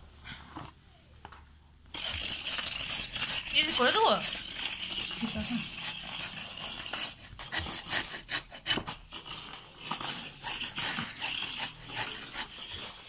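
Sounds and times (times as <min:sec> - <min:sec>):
food being grated by hand: 0:01.9 - 0:13.0.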